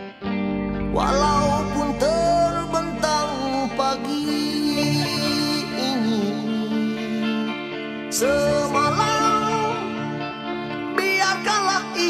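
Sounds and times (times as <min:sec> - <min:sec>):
song with guitar: 0:00.0 - 0:12.0.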